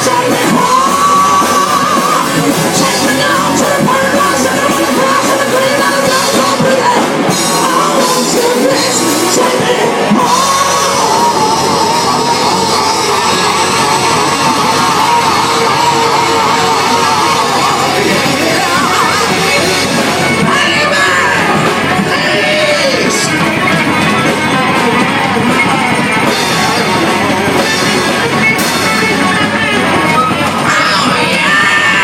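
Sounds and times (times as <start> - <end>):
electric lead guitar: 0.0 - 32.0
live rock band playing: 0.0 - 32.0
yelled vocals: 0.0 - 32.0.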